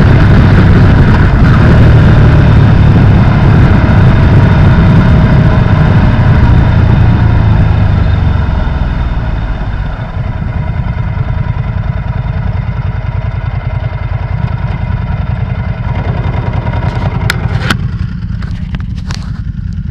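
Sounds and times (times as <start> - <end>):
motorcycle engine idling: 0.0 - 19.9.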